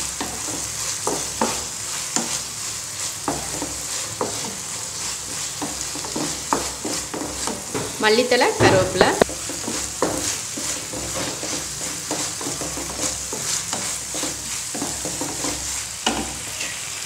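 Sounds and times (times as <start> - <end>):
vegetables sizzling in frying pan: 0.0 - 17.0.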